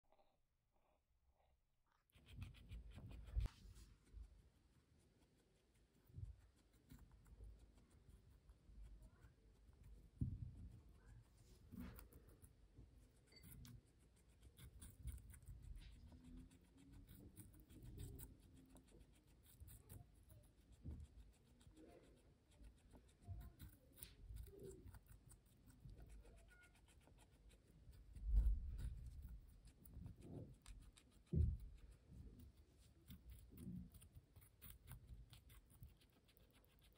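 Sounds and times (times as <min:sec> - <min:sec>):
guinea pig chewing: 0:02.0 - 0:36.9.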